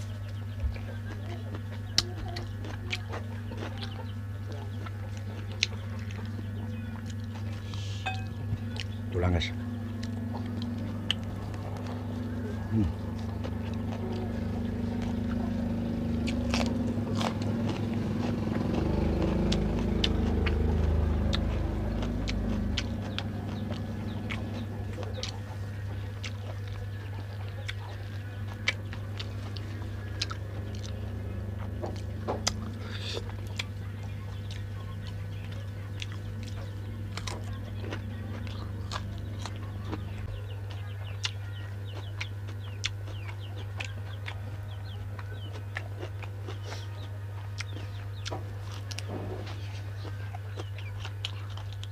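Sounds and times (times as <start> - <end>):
person chewing crunchy bones: 0.0 - 51.9
steady low hum: 0.0 - 51.9.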